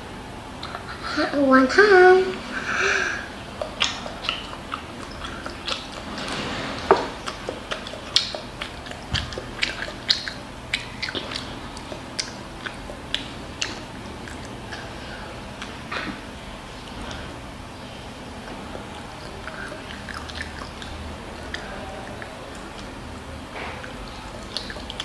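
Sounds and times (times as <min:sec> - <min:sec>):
child chewing with wet smacks: 0:03.2 - 0:25.0.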